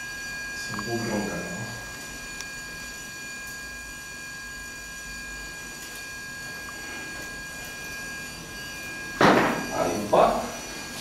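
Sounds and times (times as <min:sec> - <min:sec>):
high-pitched electrical whine: 0:00.0 - 0:11.0.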